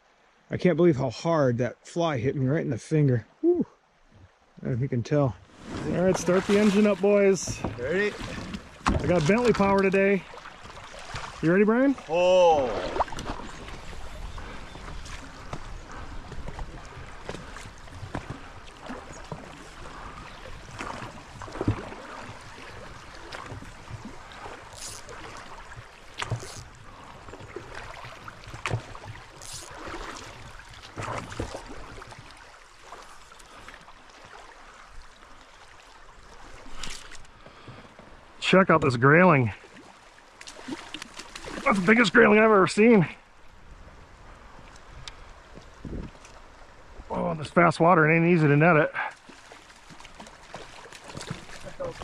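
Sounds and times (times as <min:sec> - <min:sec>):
rushing river water: 0:01.9 - 0:52.0
oars dipping and splashing: 0:05.4 - 0:52.0.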